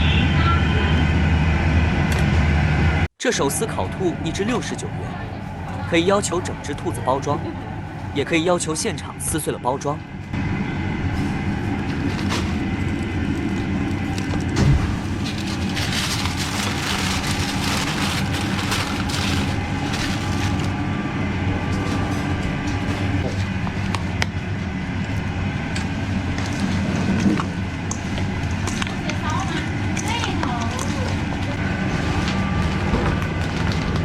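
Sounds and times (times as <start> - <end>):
busy street market din: 0.0 - 34.0
low hum: 0.0 - 34.0.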